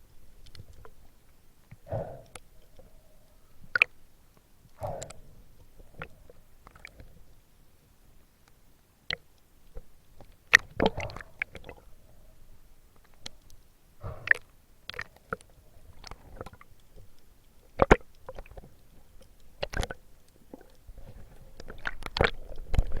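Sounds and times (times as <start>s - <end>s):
gurgling water: 0.0s - 4.0s, 4.7s - 7.4s, 9.8s - 23.0s
faint low rumble: 0.0s - 23.0s.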